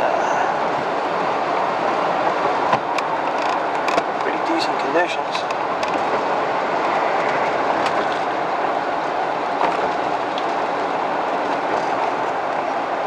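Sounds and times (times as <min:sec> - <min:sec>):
road noise inside vehicle: 0:00.0 - 0:13.0.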